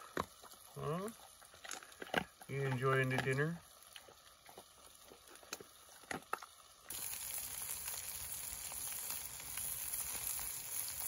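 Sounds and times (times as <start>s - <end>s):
dog crunching dry kibble: 0.0s - 10.4s
food sizzling over fire: 0.0s - 11.0s.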